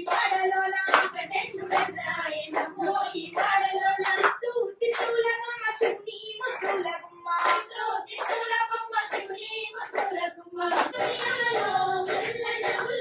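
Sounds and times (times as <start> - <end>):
hand claps: 0.0 - 13.0.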